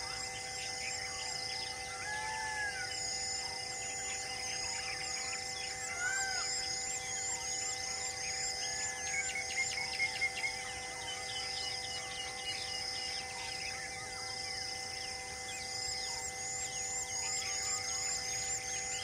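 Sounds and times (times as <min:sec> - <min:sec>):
high repeating insect call: 0:00.0 - 0:19.0.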